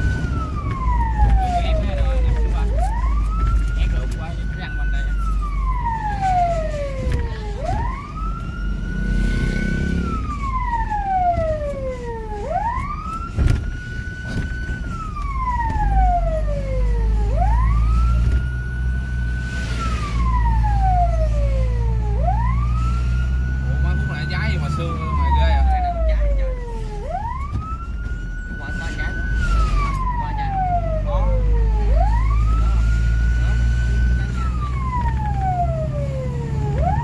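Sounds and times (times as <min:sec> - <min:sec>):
fire engine siren wailing: 0:00.0 - 0:37.0.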